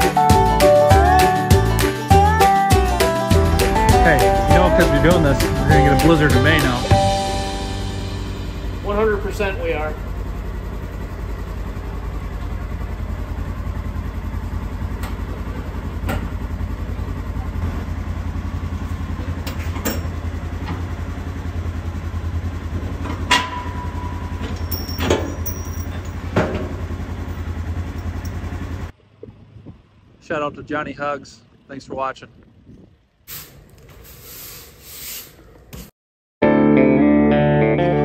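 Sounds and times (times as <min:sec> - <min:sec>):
vehicle engine droning: 0:00.0 - 0:34.1.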